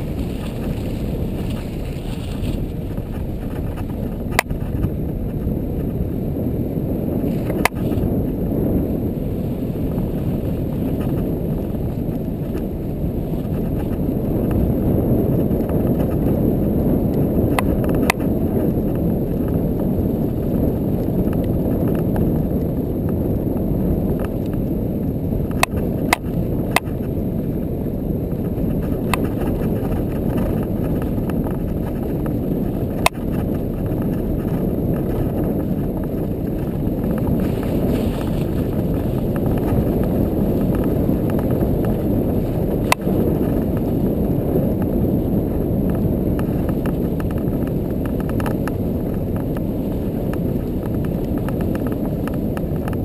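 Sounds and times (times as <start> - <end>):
atv engine rumble: 0.0 - 53.0
wind: 0.0 - 53.0.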